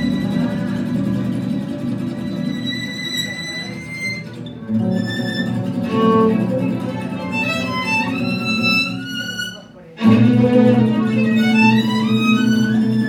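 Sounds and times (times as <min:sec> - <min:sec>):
acoustic guitar: 0:00.0 - 0:13.0
plucked double bass: 0:00.0 - 0:13.0
violin playing: 0:02.4 - 0:13.0.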